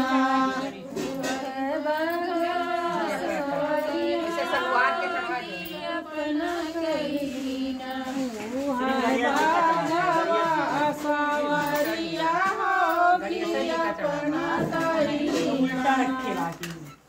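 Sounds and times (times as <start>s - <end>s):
women singing devotional song: 0.0s - 17.0s.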